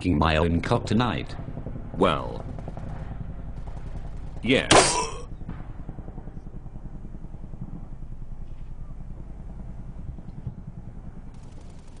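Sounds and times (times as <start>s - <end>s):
low pulsing engine rumble: 0.0s - 12.0s.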